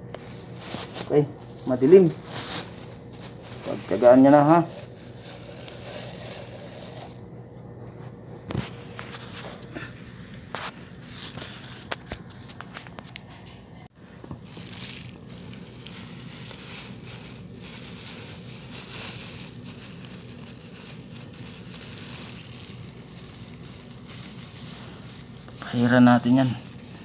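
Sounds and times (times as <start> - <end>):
crinkling and rustling handling: 0.0 - 27.0.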